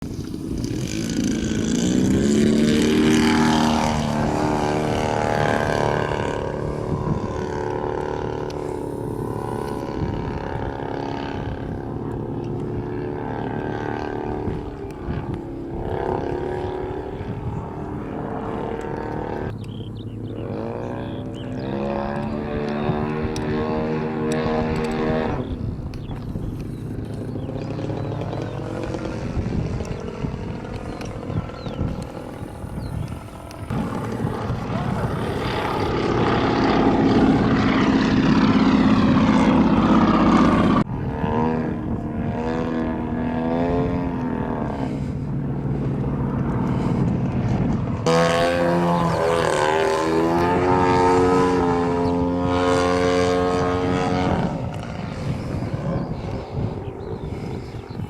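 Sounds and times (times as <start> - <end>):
model plane engine: 0.0 - 58.0.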